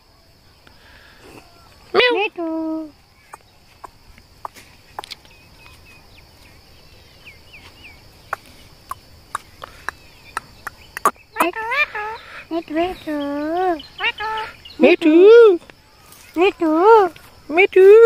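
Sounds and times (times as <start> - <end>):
faint bird chirps: 2.7 - 17.3.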